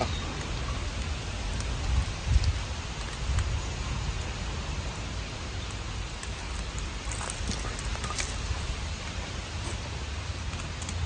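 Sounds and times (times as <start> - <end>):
wood fire hissing: 0.0 - 10.8
faint fire crackles: 0.0 - 11.0.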